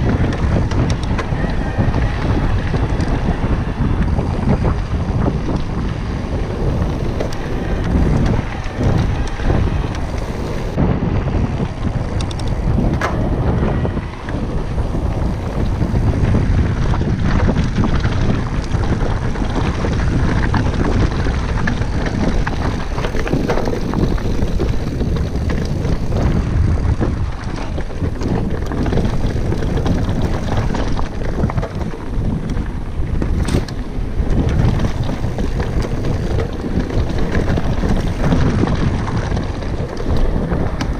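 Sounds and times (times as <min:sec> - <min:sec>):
bike rattling over stones: 0:00.0 - 0:40.9
bike tyre rumble on gravel: 0:00.0 - 0:40.9
wind buffeting microphone: 0:00.0 - 0:40.9.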